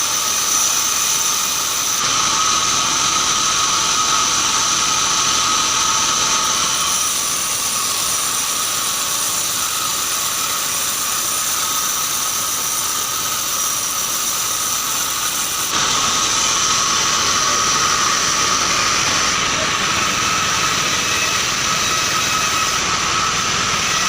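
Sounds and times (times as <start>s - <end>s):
band saw high whine: 0.0s - 24.0s.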